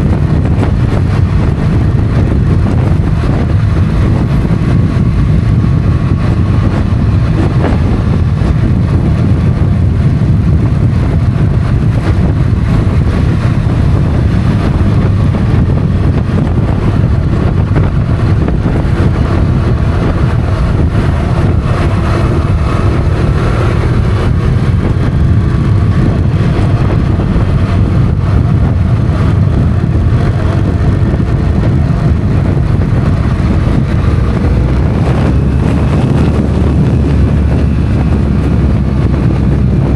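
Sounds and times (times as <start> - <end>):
motorcycle engine rumble: 0.0 - 39.9
wind rushing over microphone: 0.0 - 39.9.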